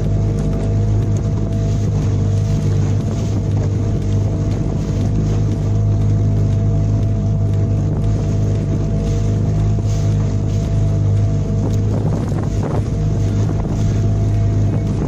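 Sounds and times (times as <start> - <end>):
outboard motor drone: 0.0 - 15.0
wind and water hiss: 0.0 - 15.0.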